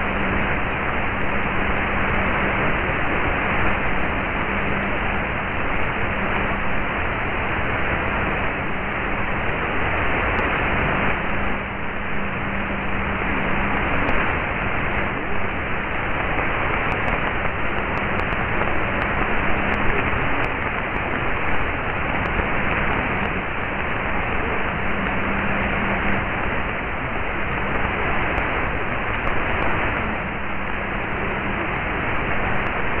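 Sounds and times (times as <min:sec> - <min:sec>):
radio hiss and static: 0:00.0 - 0:33.0.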